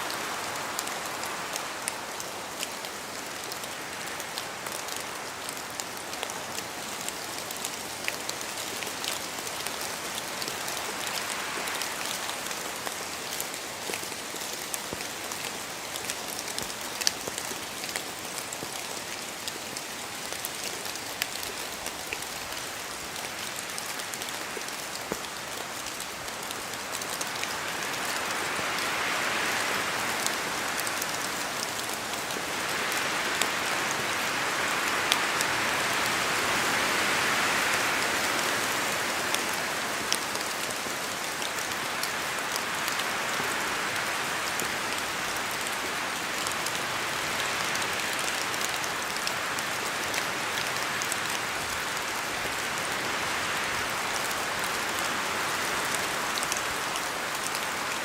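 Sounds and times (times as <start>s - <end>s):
rain in a forest: 0.0s - 58.0s.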